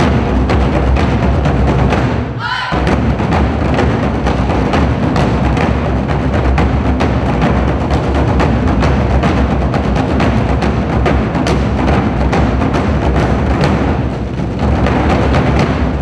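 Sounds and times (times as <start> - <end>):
barrel drums beaten fast: 0.0 - 16.0.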